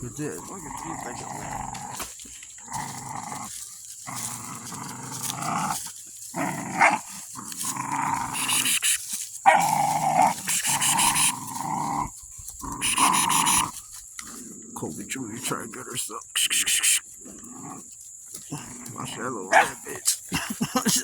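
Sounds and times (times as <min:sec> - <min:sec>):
puppies growling: 0:00.0 - 0:21.0.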